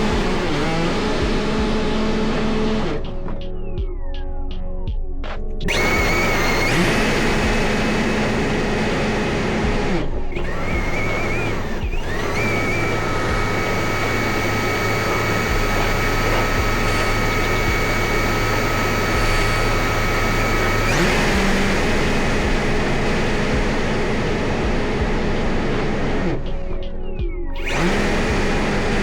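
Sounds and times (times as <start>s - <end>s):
electric fan motor whining: 0.0s - 3.1s, 5.6s - 26.6s, 27.6s - 29.0s.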